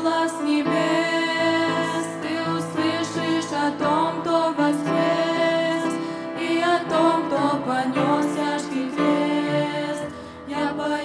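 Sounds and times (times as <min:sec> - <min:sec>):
girls singing a worship song: 0:00.0 - 0:11.0.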